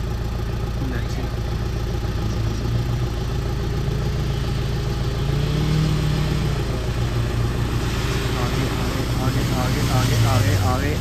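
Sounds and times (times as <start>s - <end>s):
suv engine running at low revs: 0.0s - 11.0s.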